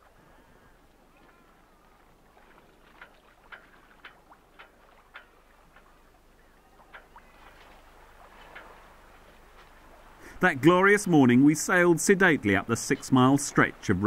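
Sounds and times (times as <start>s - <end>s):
light wash of water: 0.0s - 14.0s.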